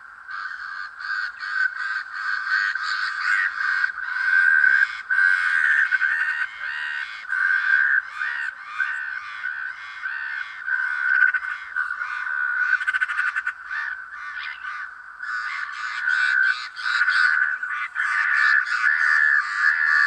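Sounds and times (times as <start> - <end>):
chorus of animal calls: 0.0 - 20.0.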